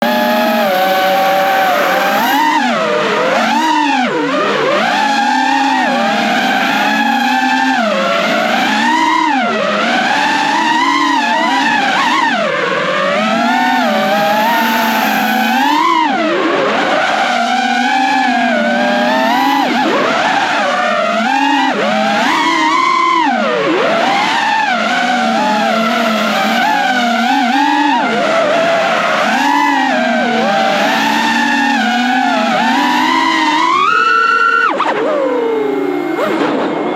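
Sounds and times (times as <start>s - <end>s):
drone motors whining: 0.0s - 36.9s.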